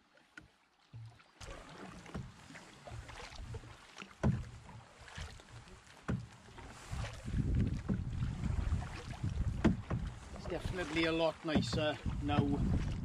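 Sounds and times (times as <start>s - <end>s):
canoe paddle strokes in water: 0.0s - 13.0s
water washing along hull: 0.0s - 13.0s.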